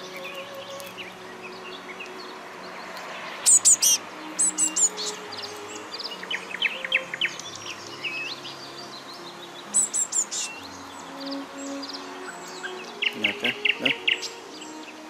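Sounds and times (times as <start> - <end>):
blue tits chirping: 0.0 - 15.0.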